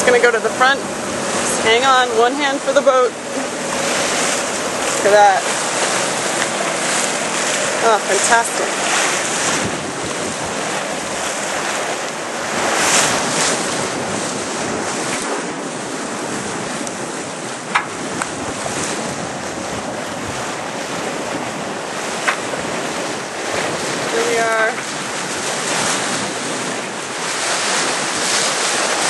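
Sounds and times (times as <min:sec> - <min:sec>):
sea water rushing along hull: 0:00.0 - 0:29.0
wind buffeting microphone: 0:00.0 - 0:29.0.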